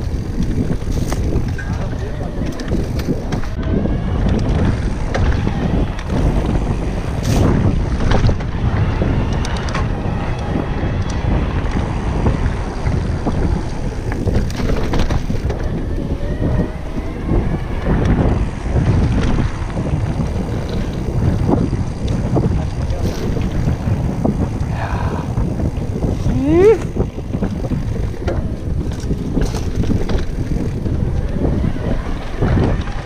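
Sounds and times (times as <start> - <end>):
bike rattling over bumps: 0.0 - 33.0
bike tyres rumbling on dirt: 0.0 - 33.0
wind buffeting microphone: 0.0 - 33.0.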